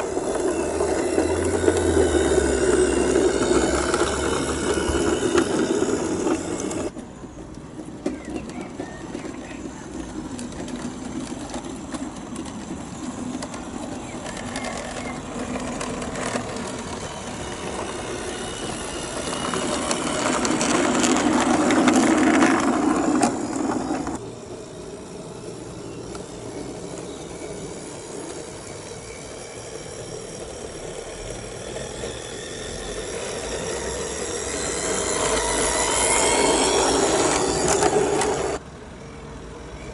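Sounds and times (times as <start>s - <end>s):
model railcar motor running: 0.0s - 39.9s
wheels rolling on rails: 0.0s - 39.9s.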